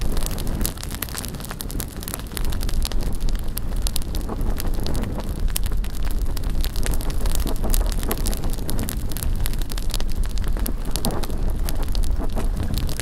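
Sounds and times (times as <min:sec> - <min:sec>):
bonfire crackling and popping: 0:00.0 - 0:13.0
wind buffeting microphone: 0:00.0 - 0:13.0.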